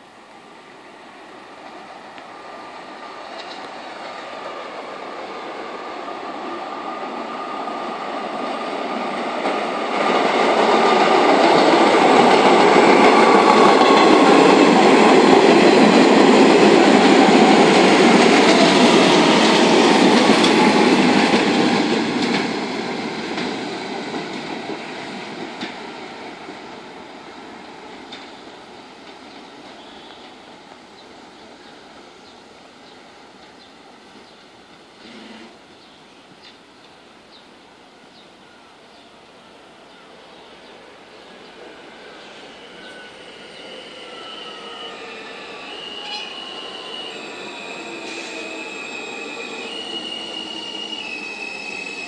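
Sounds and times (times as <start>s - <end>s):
subway train passing: 0.0s - 52.0s.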